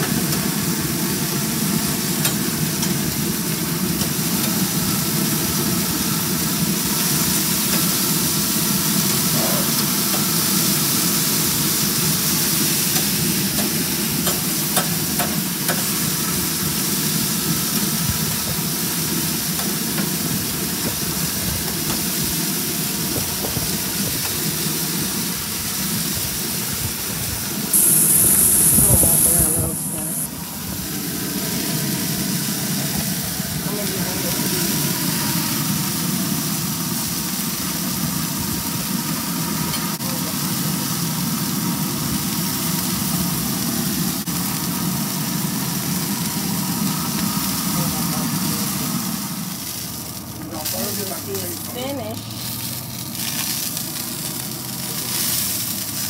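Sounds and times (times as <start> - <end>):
meat sizzling on a grill: 0.1 - 56.0.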